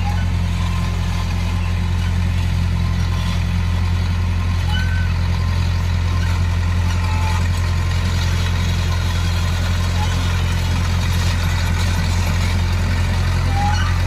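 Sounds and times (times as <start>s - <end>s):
heavy diesel engine humming: 0.0s - 14.0s.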